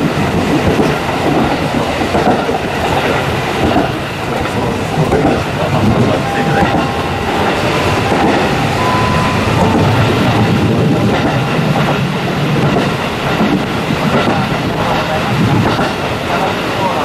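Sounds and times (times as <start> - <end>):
train wheels on jointed rail: 0.0 - 17.0.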